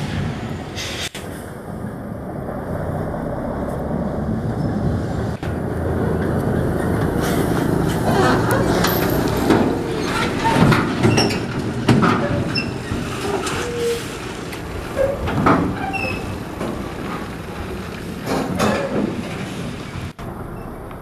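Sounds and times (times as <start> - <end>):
truck diesel engine passing: 0.0 - 21.0.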